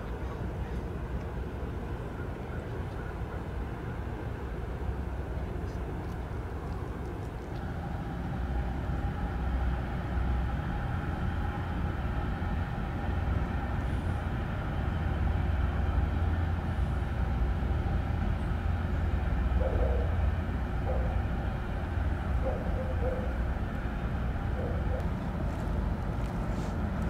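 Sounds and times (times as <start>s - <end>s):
faint hum: 0.0s - 27.0s
low engine rumble: 0.0s - 27.0s.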